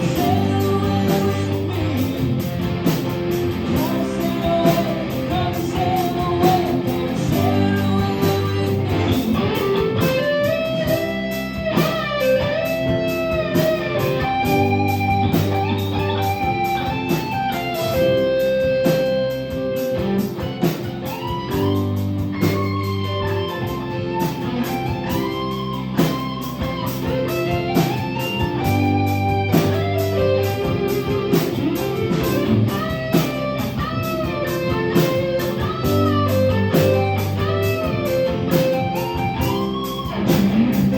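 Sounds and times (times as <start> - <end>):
electric guitar lead: 0.0 - 40.9
rock band playing: 0.0 - 40.9.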